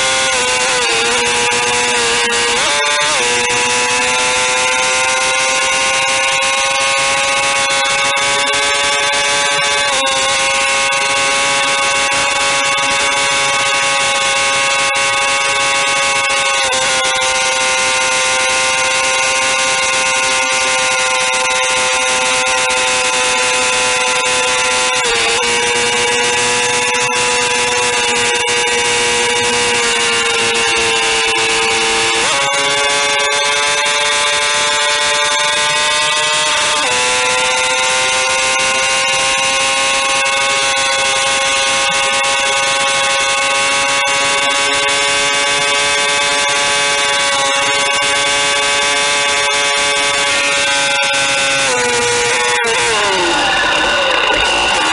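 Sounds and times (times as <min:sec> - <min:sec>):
motorcycle engine at high revs: 0:00.0 - 0:54.9.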